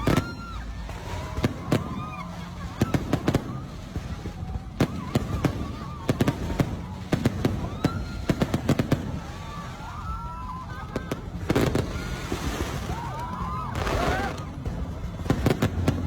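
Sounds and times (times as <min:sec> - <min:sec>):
fireworks bangs and cracks: 0:00.0 - 0:16.0
fireworks whistling: 0:00.0 - 0:16.0.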